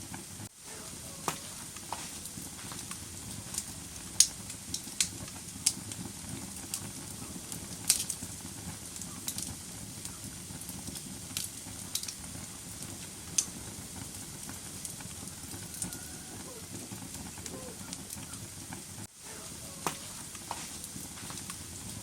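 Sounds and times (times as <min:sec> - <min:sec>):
flames rushing in a fireplace: 0:00.0 - 0:22.0
logs crackling and popping: 0:00.0 - 0:22.0.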